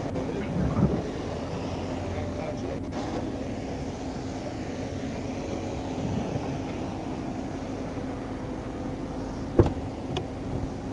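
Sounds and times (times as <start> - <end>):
vehicle engine idling: 0.0 - 10.9.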